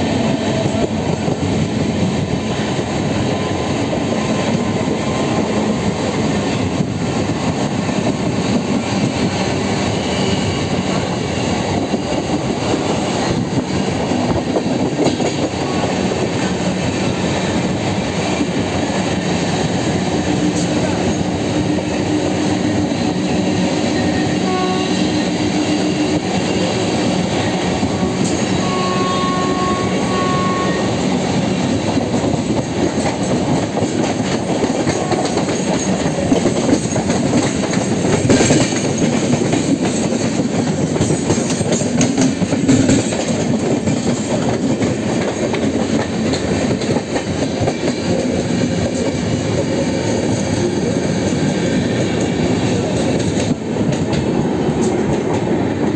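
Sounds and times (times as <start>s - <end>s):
train wheels rumbling on track: 0.0s - 55.9s.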